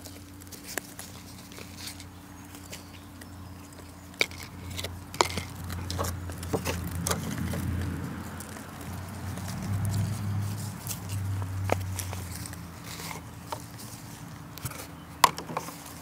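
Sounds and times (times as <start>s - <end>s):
plastic pots clicking: 0.0s - 16.0s
soil rustling: 0.0s - 16.0s
steady low hum: 0.0s - 16.0s.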